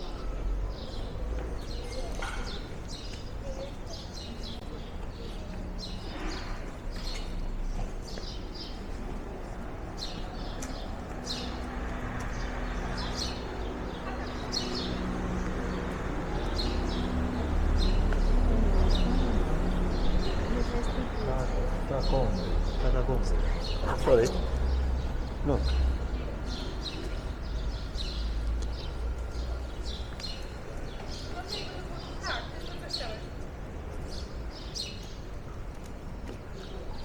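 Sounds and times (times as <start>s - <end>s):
small birds chirping: 0.6s - 37.0s.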